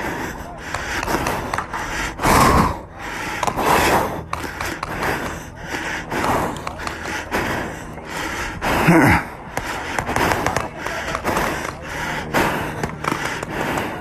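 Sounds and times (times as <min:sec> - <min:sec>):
heavy breathing: 0:00.0 - 0:14.0.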